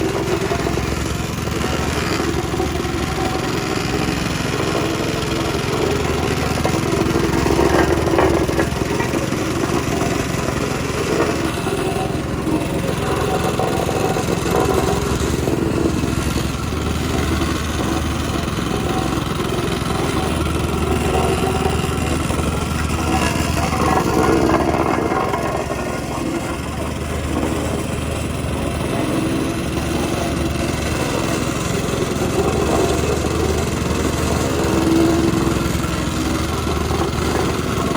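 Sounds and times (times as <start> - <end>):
machine engine running: 0.0 - 37.9.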